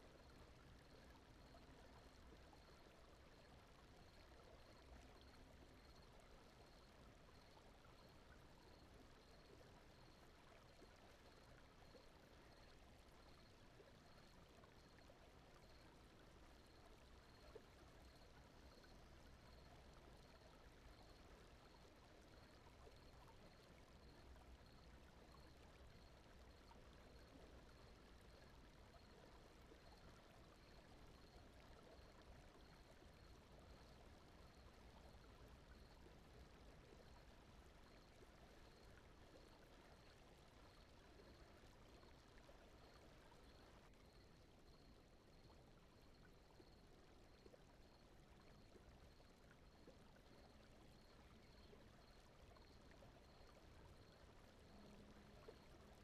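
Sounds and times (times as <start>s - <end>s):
faint brown noise: 0.0s - 56.0s.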